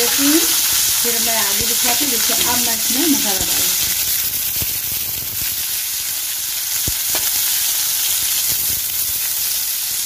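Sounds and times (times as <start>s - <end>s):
spices frying in oil: 0.0s - 10.0s.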